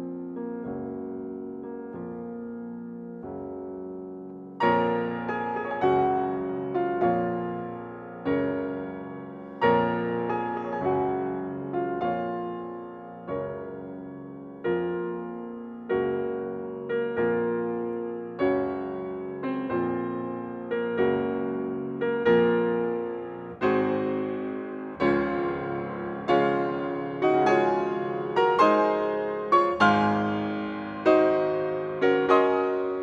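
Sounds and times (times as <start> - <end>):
slow piano chords: 0.0 - 33.0.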